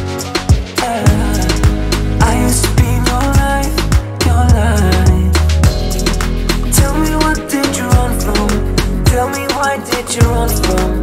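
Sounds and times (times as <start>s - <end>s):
pop r and b track with bass: 0.0s - 11.0s.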